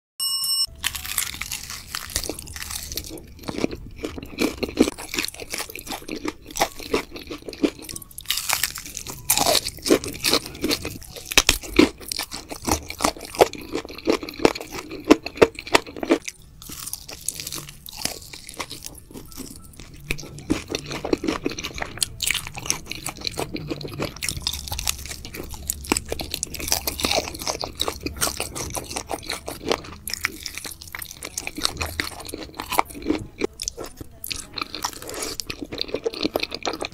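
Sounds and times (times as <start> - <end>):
chewing crispy fried chicken: 0.7 - 36.9.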